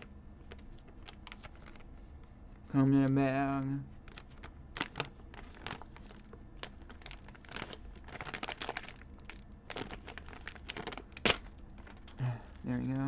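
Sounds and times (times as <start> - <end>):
plastic bag crinkling: 0.0 - 2.1, 4.0 - 13.0.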